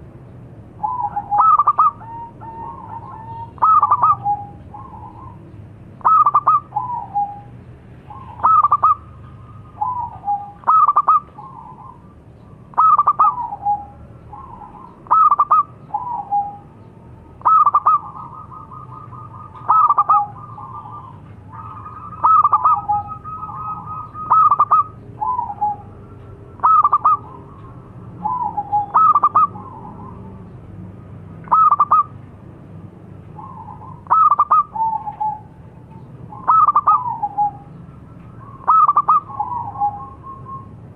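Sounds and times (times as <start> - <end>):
dove cooing: 0.8 - 30.6, 31.4 - 32.2, 33.3 - 40.8.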